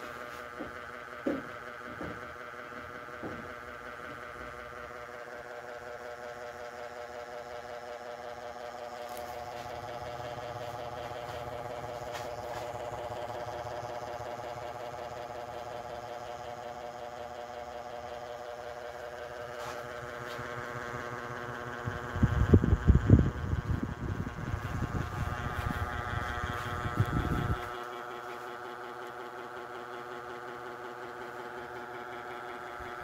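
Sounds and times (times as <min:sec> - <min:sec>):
ceiling fan running: 0:00.0 - 0:33.0.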